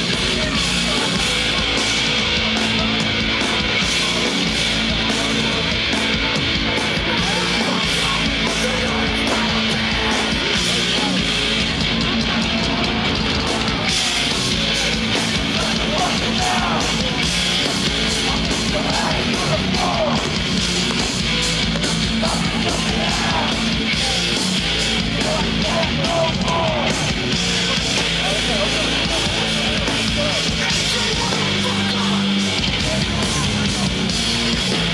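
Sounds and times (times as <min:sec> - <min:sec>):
bass guitar: 0:00.0 - 0:34.9
distorted electric guitars: 0:00.0 - 0:34.9
pounding drums: 0:00.0 - 0:34.9.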